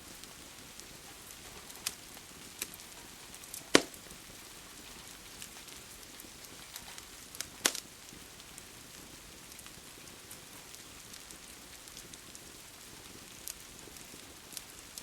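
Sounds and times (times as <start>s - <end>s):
rain hiss: 0.0s - 15.0s
wood fire crackling and popping: 0.0s - 15.0s.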